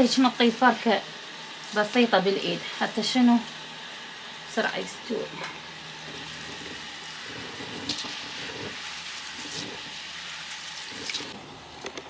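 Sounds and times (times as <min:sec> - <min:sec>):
steady hiss: 0:00.0 - 0:11.4.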